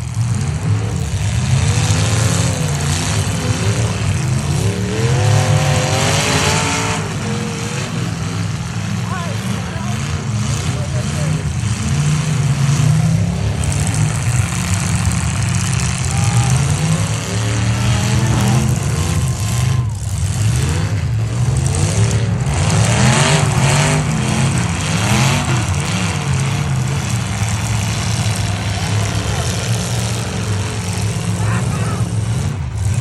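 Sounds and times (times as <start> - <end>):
truck engines revving hard: 0.0 - 33.0.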